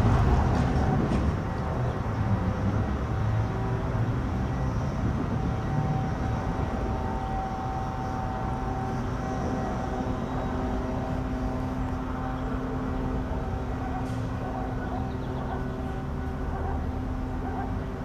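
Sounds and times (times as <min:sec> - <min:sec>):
distant train locomotive rumble: 0:00.0 - 0:18.0.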